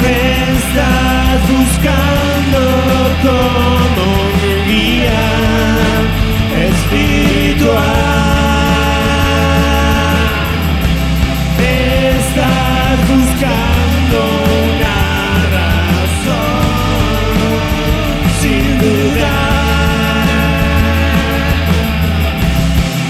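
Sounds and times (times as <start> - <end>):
man singing: 0.0 - 10.9, 11.5 - 22.2
rock band playing live: 0.0 - 23.0.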